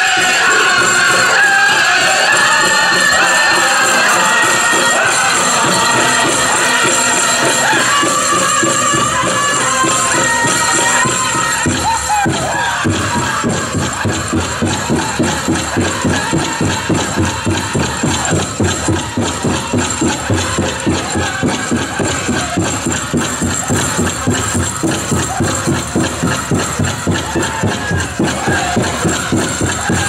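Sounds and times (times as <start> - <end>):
big drum steady beat: 0.0 - 30.0
leg bells jingling: 0.0 - 30.0
voices singing: 0.0 - 30.0.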